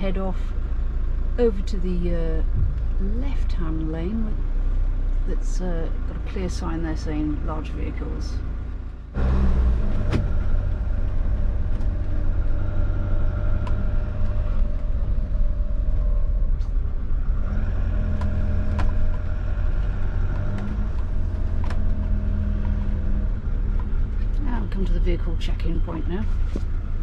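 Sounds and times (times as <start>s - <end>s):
diesel engine driving: 0.0s - 27.0s
road rumble: 0.0s - 27.0s.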